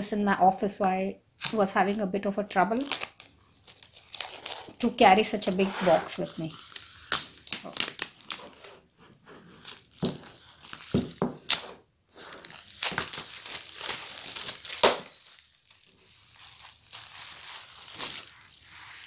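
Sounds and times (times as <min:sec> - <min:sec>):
plastic shrink-wrap crinkling: 0:01.3 - 0:05.5, 0:06.5 - 0:19.0.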